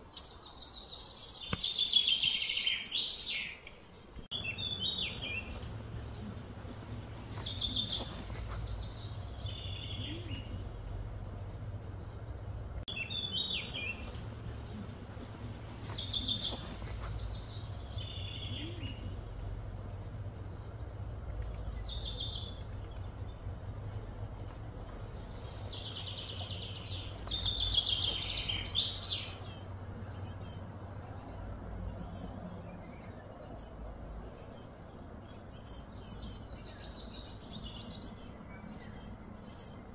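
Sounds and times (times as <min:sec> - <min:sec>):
birds chirping and singing: 0:00.0 - 0:39.9
steady low hum: 0:03.9 - 0:39.9.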